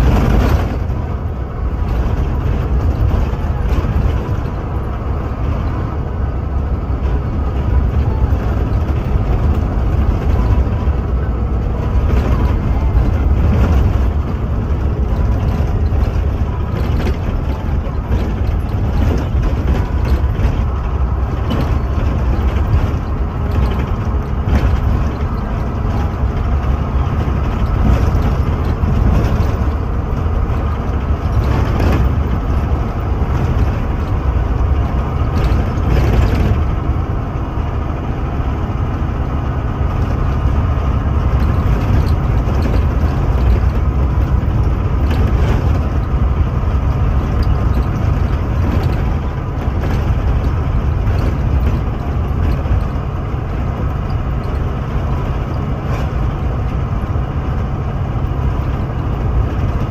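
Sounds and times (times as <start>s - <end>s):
bus body knocks and rattles: 0.0s - 59.9s
bus engine running: 0.0s - 59.9s
tyre and road rumble: 0.0s - 59.9s.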